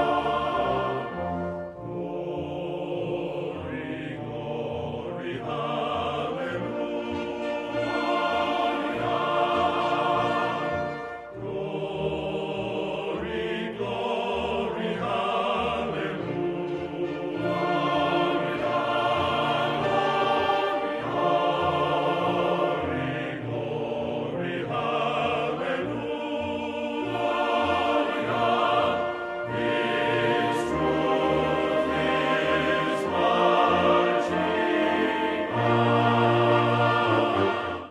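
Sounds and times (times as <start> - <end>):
choir singing held notes: 0.0 - 37.9.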